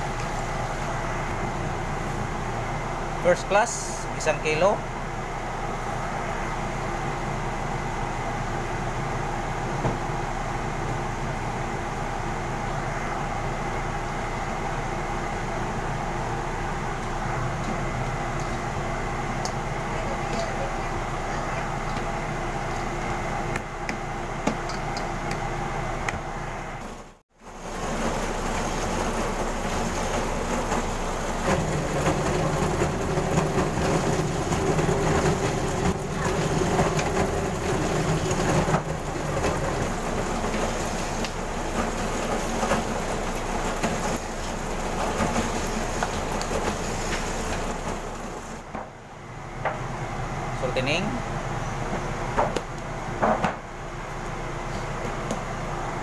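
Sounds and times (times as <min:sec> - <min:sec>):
dough roller machine rumbling: 0:00.0 - 0:49.9.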